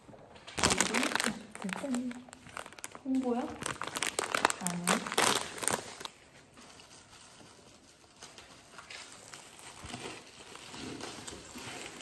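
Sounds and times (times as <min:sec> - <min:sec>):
soft rustles and clicks: 0:00.0 - 0:12.0
plastic wrapper crinkling: 0:00.4 - 0:12.0.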